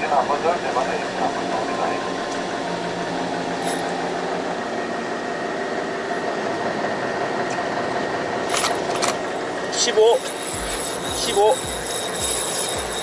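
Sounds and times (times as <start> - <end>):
boat engine running: 0.0 - 13.0
wind: 0.0 - 13.0.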